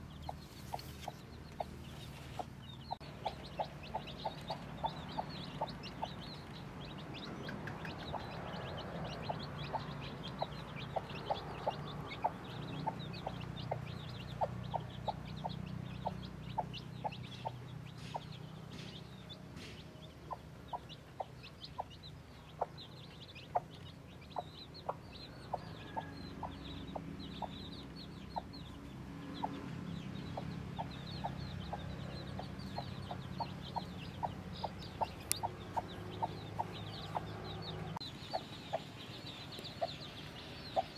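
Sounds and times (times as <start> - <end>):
hen clucking: 0.0 - 28.6, 29.3 - 40.9
chicks peeping: 0.0 - 40.9.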